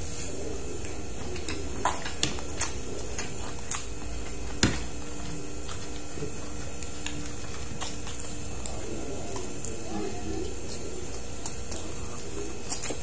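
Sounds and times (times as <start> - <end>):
steady low hum: 0.0 - 13.0
person chewing and lip-smacking: 0.6 - 13.0.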